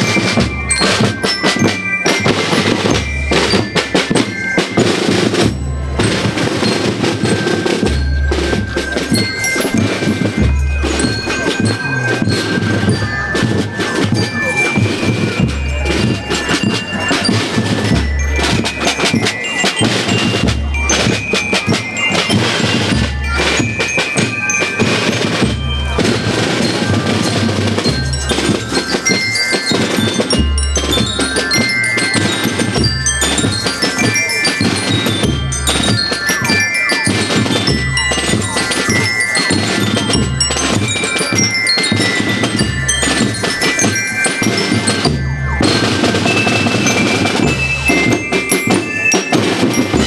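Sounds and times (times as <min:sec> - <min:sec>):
bell lyres playing melody: 0:00.0 - 0:50.0
snare and bass drums beating: 0:00.0 - 0:50.0.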